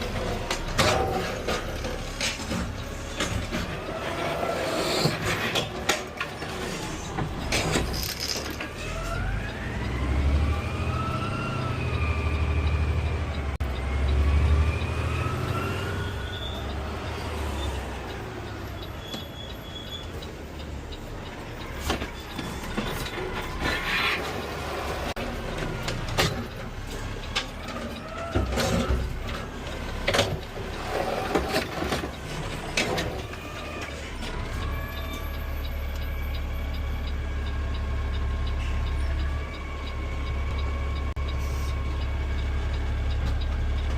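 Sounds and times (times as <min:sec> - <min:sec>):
garbage truck engine rumble: 0:00.0 - 0:43.9.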